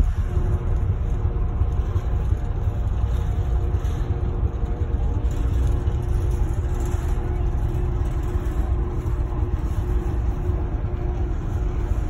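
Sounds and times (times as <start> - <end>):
faint steady hum: 0.0 - 12.0
ferry engine rumble: 0.0 - 12.0.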